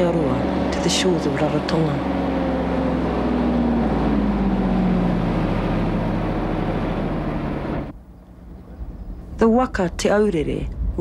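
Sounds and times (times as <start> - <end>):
truck engine running: 0.0 - 9.3.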